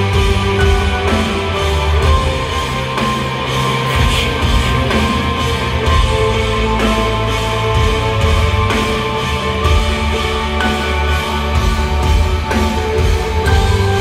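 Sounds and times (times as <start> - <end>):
bass and drums: 0.0 - 14.0
electric guitars: 0.0 - 14.0
live rock band playing: 0.0 - 14.0.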